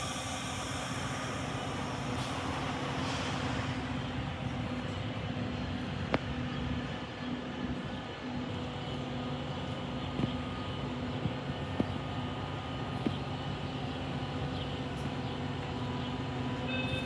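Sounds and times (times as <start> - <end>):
stopped train humming: 0.0 - 17.0.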